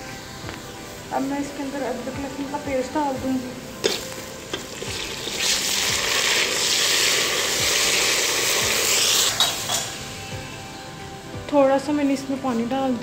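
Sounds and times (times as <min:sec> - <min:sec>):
onions sizzling in hot oil: 0:00.0 - 0:10.9.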